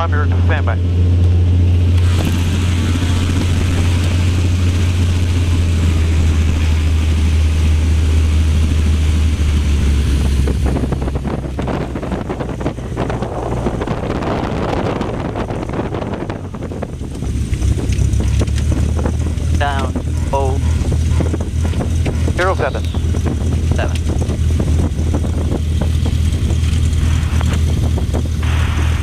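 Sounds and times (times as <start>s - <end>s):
propeller engine drone: 0.0s - 29.0s
wind rushing through window: 1.7s - 29.0s.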